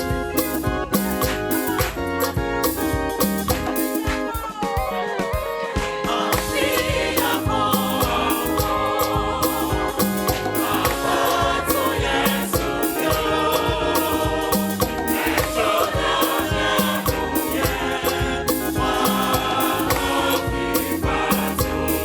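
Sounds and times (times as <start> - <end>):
band accompaniment: 0.0 - 22.0
choir singing gospel: 0.0 - 22.0
steady drum beat: 0.0 - 22.0.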